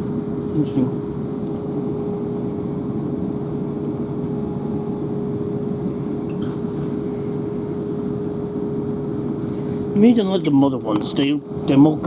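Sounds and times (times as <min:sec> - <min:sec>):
steady humming tone: 0:00.0 - 0:12.0.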